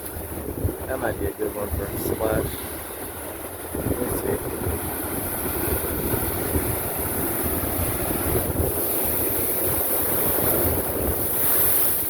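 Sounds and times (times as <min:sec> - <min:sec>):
ocean surf breaking on cliff: 0:00.0 - 0:12.0
wave splash: 0:00.0 - 0:12.0
wind buffeting microphone: 0:00.0 - 0:12.0.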